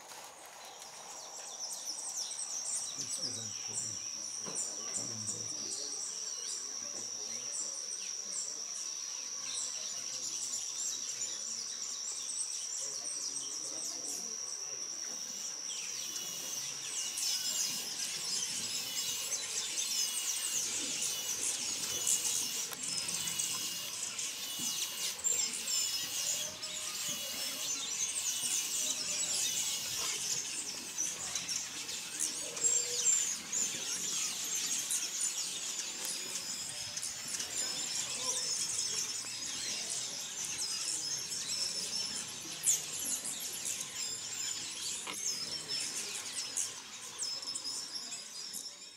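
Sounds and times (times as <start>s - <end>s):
small birds chirping: 0.0s - 48.9s
steady high-pitched insect note: 0.3s - 48.9s.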